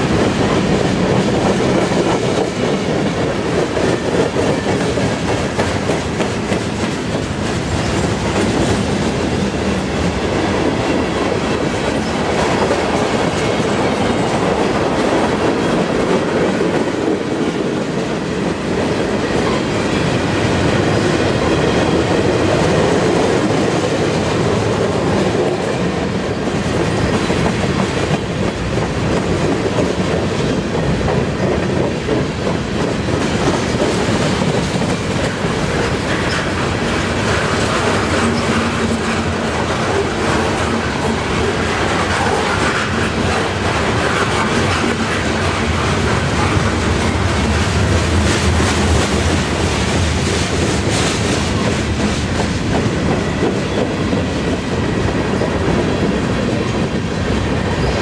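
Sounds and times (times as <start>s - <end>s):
steel train wheels on rails: 0.0s - 58.0s.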